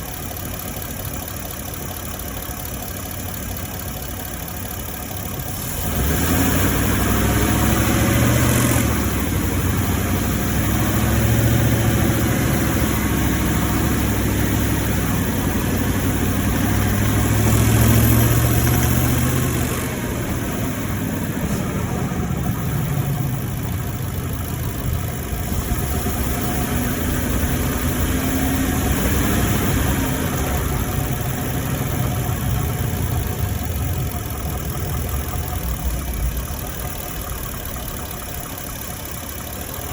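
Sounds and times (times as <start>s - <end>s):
car engine running while driving: 0.0s - 39.9s.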